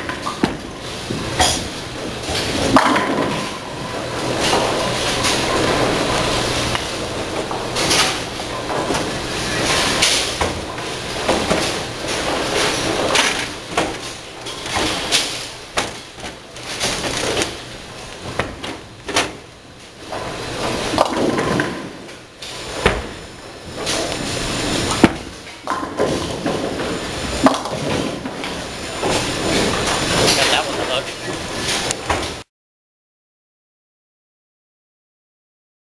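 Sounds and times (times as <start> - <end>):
knocks and clatters of bowling alley: 0.0 - 32.4.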